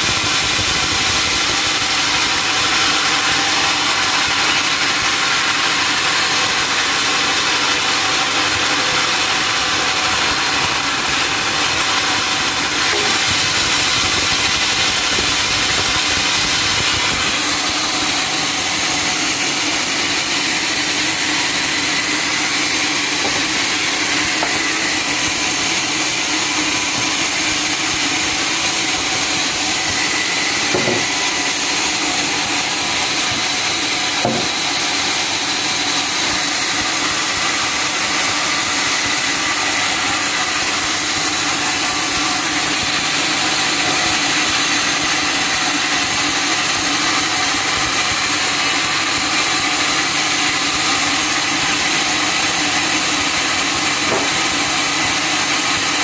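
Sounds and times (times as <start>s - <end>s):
sawmill saw cutting log: 0.0s - 56.0s.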